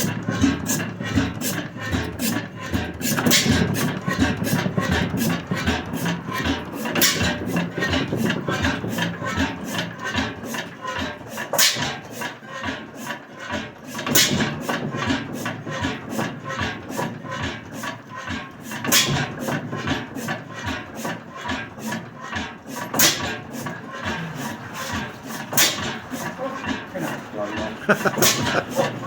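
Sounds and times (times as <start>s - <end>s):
old gas engine clattering: 0.0s - 29.0s.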